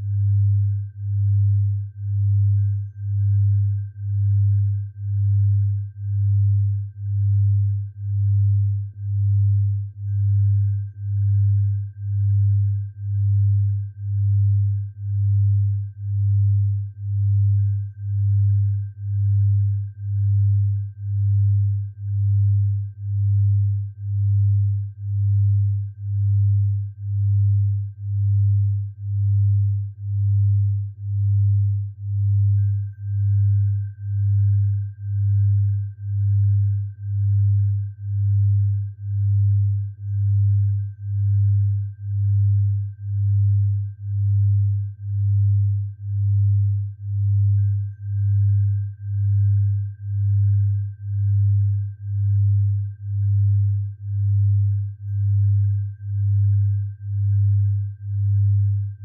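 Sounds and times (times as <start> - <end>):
low pulsing hum: 0.0 - 59.0.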